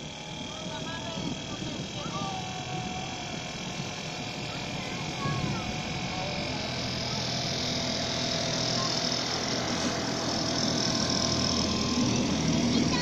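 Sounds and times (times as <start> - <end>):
miniature locomotive motor running: 0.0 - 13.0.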